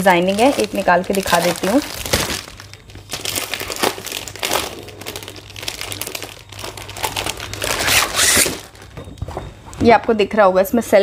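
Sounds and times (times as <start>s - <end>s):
plastic crinkling and rustling: 0.0s - 10.0s.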